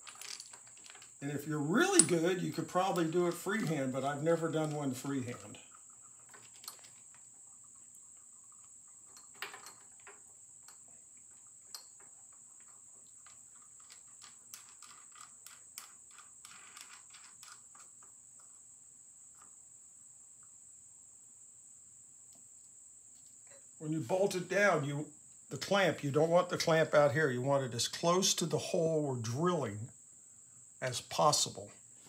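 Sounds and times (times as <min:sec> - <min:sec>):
faint high-pitched whine: 0:00.0 - 0:32.0.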